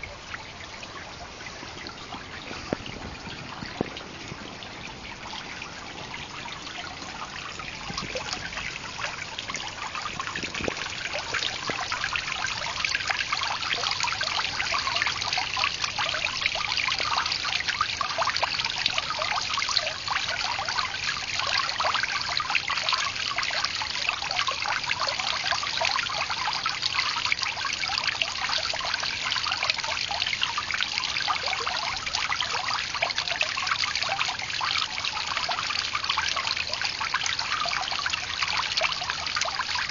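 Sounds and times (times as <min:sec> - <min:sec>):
water feature splashing: 0:00.0 - 0:39.9.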